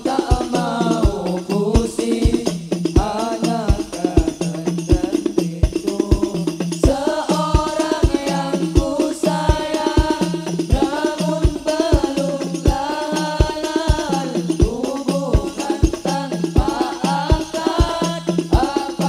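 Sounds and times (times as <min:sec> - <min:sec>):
frame drums thumping: 0:00.0 - 0:19.0
people singing: 0:00.0 - 0:19.0.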